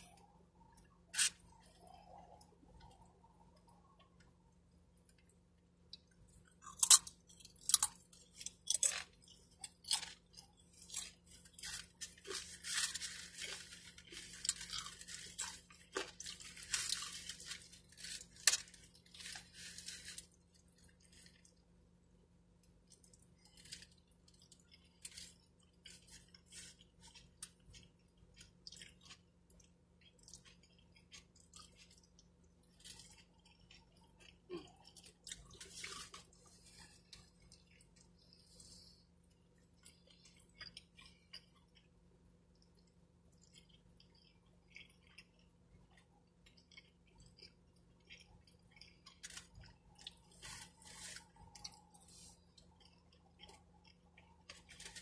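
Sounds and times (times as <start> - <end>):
person chewing: 0.0 - 21.7, 22.6 - 55.0
faint steady hum: 0.0 - 55.0.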